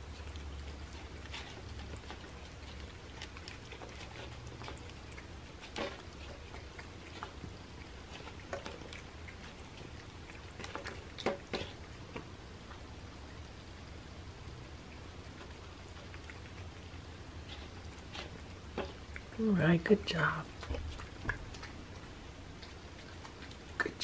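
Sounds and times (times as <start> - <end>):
cats chewing and licking: 0.0 - 24.0.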